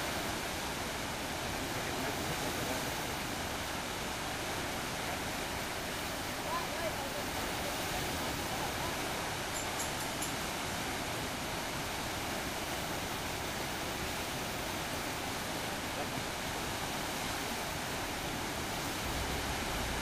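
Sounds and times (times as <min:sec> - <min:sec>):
river rapids rushing: 0:00.0 - 0:20.0.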